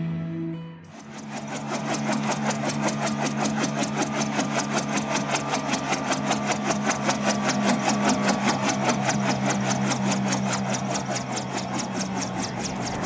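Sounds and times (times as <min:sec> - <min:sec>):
helicopter engine hum and chopping: 0:00.9 - 0:13.0.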